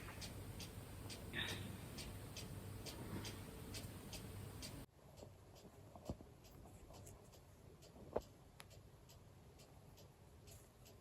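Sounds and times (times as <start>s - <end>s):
faint even ticking: 0.0s - 11.0s.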